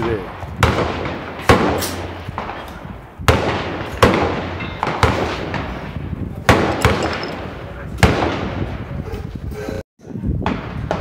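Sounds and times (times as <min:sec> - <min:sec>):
gunshots with echo: 0:00.0 - 0:08.9.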